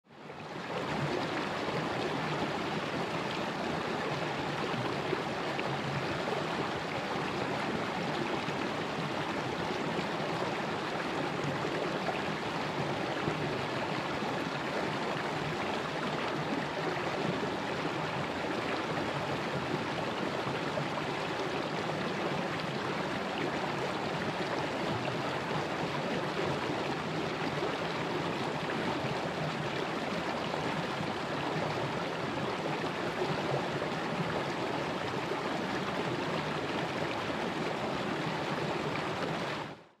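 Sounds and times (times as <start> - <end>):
stream flowing over rocks: 0.1 - 40.0.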